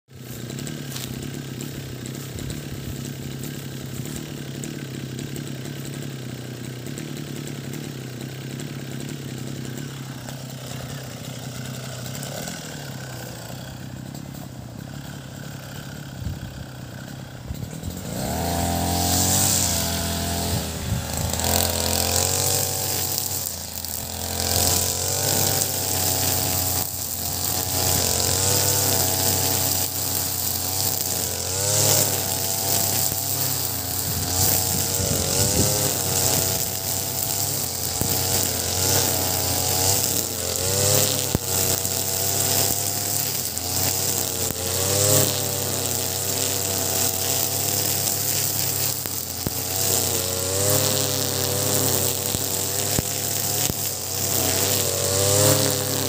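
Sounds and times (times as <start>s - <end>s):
brush cutter engine running: 0.1s - 56.0s
trimmer line hissing: 0.1s - 56.0s.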